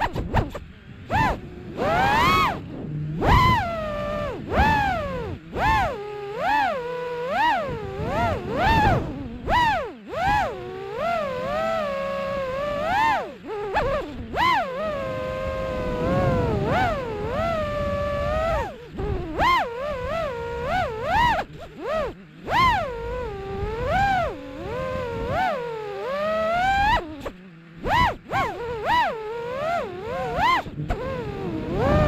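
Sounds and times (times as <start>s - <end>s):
dirt bike revving: 0.0s - 32.0s
wind and tyre rumble: 0.0s - 32.0s.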